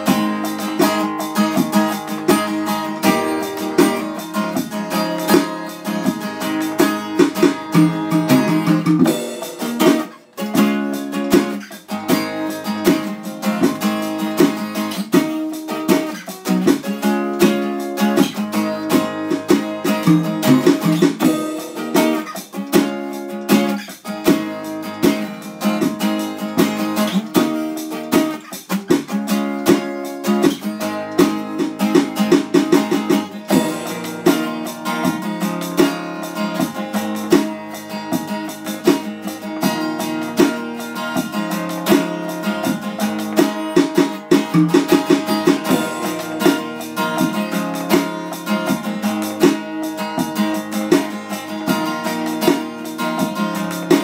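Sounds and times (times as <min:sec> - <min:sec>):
guitar plucking quick notes: 0:00.0 - 0:54.0.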